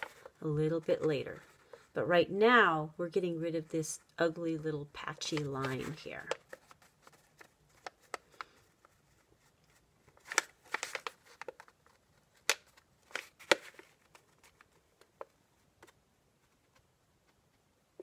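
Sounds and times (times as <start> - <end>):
paper crinkling: 0.0 - 2.0, 4.9 - 17.6.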